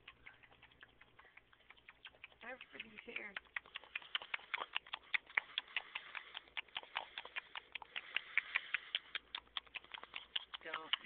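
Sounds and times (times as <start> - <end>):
rapid irregular clicking: 0.0 - 11.0.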